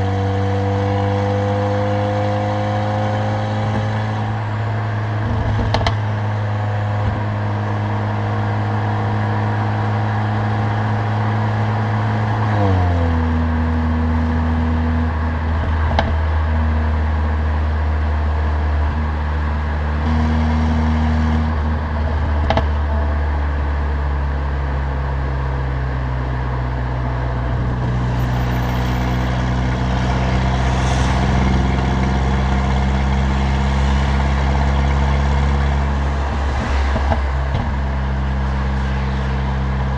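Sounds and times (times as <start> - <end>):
car engine with loud exhaust: 0.0 - 39.9.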